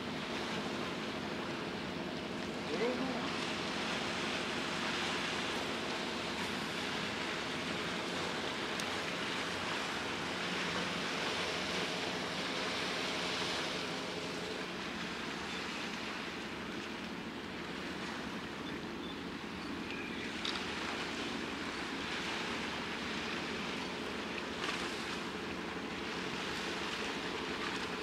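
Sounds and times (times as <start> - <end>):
faint ship engine hum: 0.0 - 28.0
waves washing: 0.0 - 28.0
wind over water: 0.0 - 28.0.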